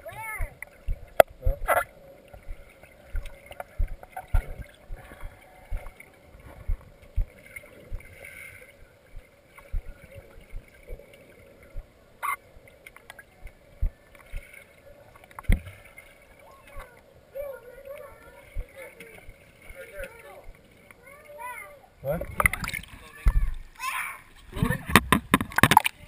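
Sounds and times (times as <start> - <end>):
water sloshing and gurgling: 0.0 - 26.0.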